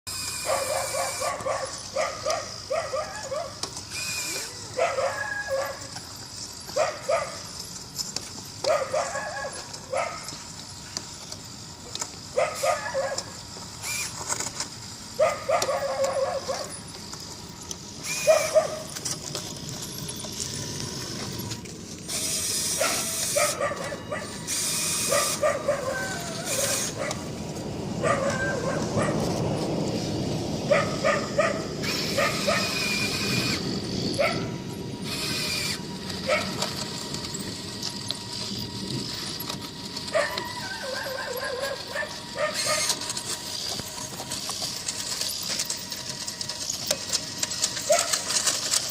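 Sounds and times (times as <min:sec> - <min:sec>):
model bulldozer tracks clattering: 0:00.2 - 0:48.9.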